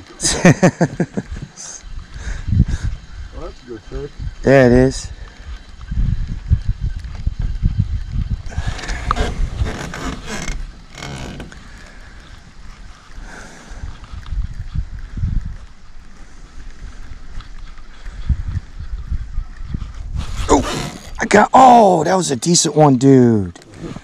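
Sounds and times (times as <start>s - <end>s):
wind buffeting microphone: 0.0s - 21.6s, 22.5s - 24.0s.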